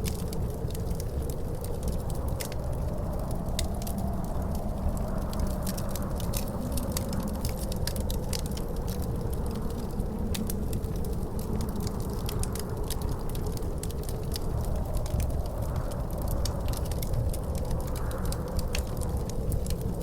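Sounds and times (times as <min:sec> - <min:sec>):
faint wind howling: 0:00.0 - 0:20.0
wood fire crackling and popping: 0:00.0 - 0:20.0.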